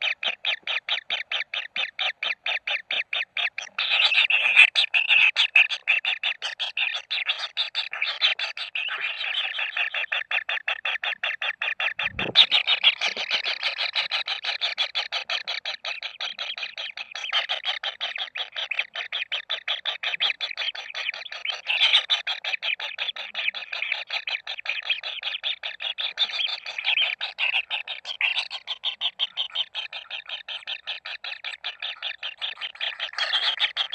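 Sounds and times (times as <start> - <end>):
nestlings begging calls: 0.0 - 33.9.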